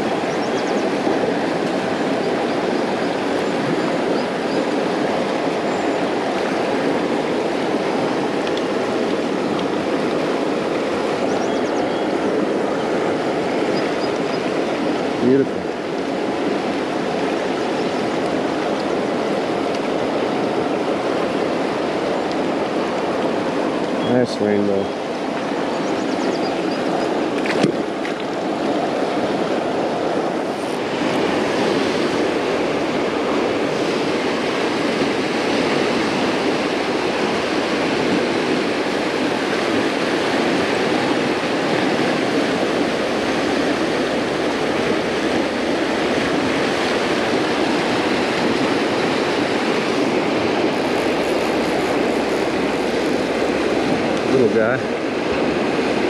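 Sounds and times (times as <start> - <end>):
river rapid rushing over rocks: 0.0 - 56.0.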